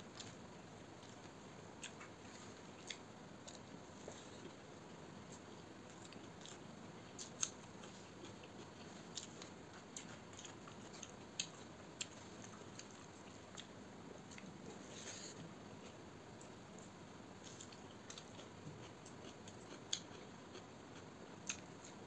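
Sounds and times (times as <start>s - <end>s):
chewing: 1.0s - 4.6s, 5.3s - 6.6s, 7.2s - 22.0s.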